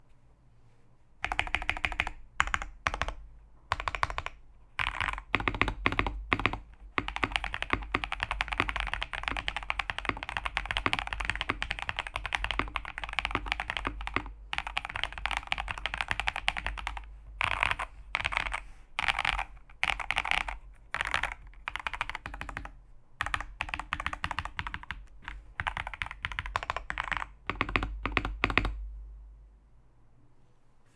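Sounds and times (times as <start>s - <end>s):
mechanical keyboard typing: 1.2s - 28.8s.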